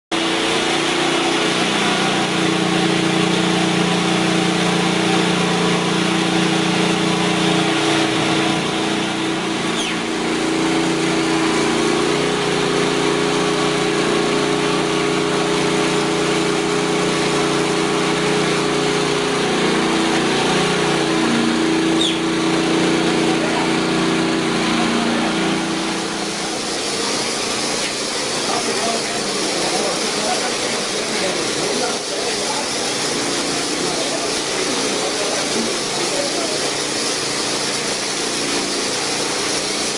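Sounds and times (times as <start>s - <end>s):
machine engine running: 0.2s - 39.9s.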